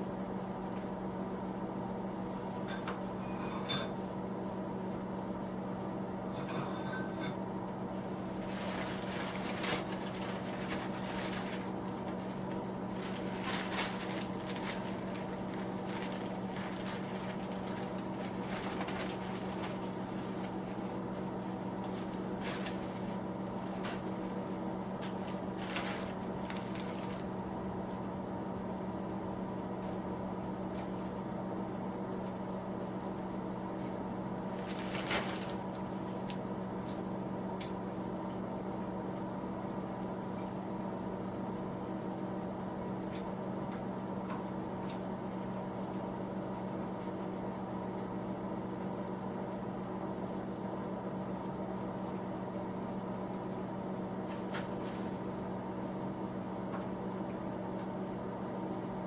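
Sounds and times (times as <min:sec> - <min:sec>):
heater electric hum: 0:00.0 - 0:59.0.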